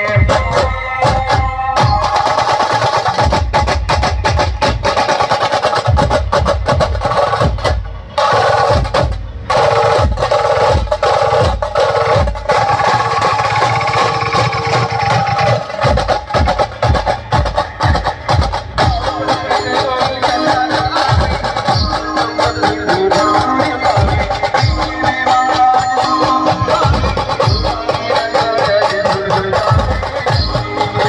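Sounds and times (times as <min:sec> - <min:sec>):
fast drumming with snare rolls: 0:00.0 - 0:31.0.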